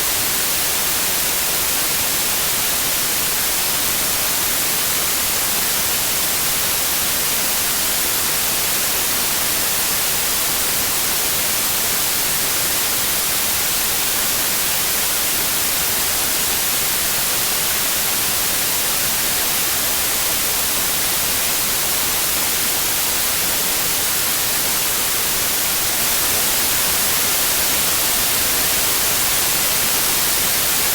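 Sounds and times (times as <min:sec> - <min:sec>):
steady high-pitched hiss: 0:00.0 - 0:30.9.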